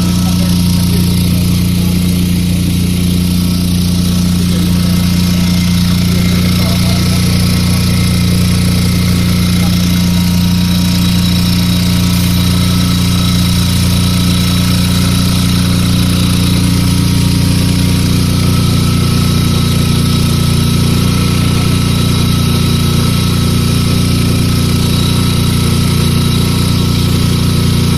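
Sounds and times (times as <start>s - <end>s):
generator engine running: 0.0s - 27.9s
thin high whine: 0.0s - 27.9s.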